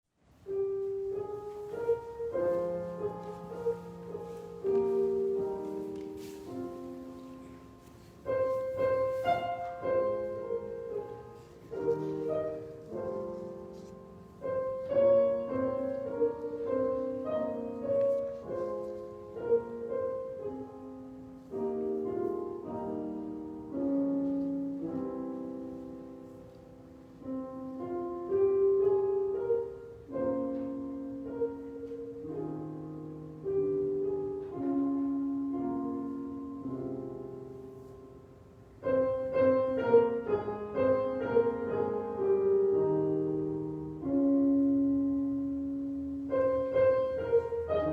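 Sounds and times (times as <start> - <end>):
piano playing slow chords: 0.2 - 47.9.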